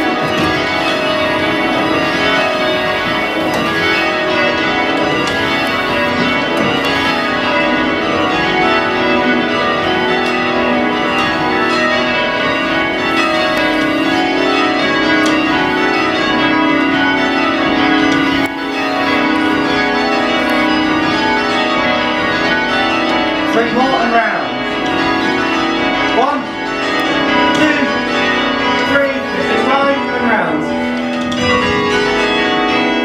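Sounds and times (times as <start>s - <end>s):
church bells change ringing: 0.0s - 33.0s.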